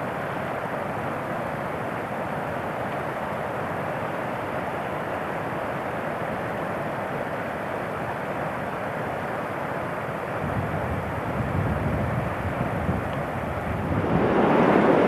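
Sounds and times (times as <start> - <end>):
mountain stream rushing: 0.0 - 11.4, 13.2 - 15.0.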